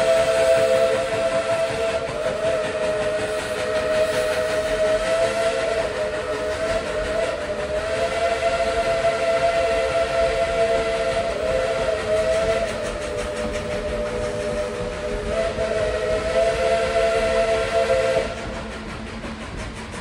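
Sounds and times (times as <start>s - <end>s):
steam locomotive whistle: 0.0s - 20.0s
train running: 0.0s - 20.0s.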